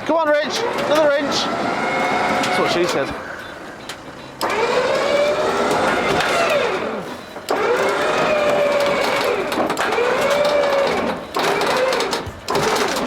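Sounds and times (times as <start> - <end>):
winch motor whining: 0.2 - 13.0.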